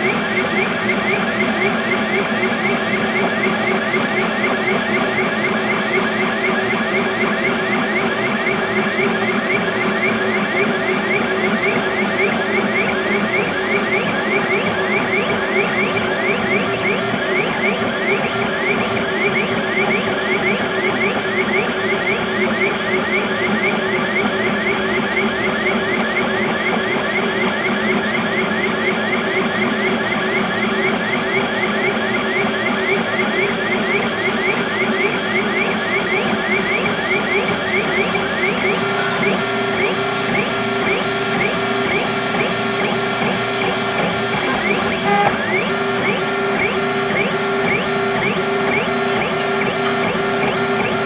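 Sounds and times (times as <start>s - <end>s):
stepper motors whining: 0.0s - 51.0s.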